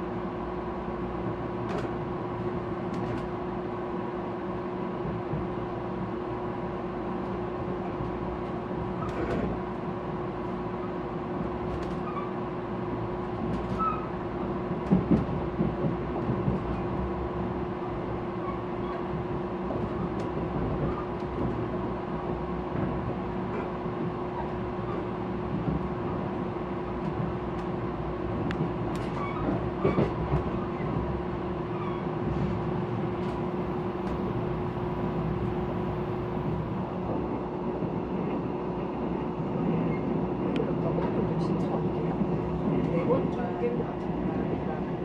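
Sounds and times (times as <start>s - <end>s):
train carriage rumble: 0.0s - 45.0s.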